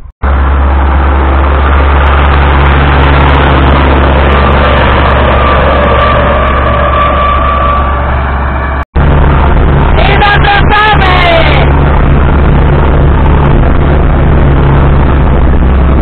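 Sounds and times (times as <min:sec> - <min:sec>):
steady whine: 0:00.0 - 0:16.0
tractor diesel engine running: 0:00.0 - 0:16.0.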